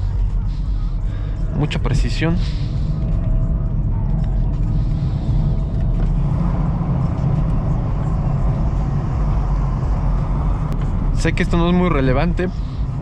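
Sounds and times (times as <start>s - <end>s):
engine and tyre rumble in car: 0.0s - 13.0s.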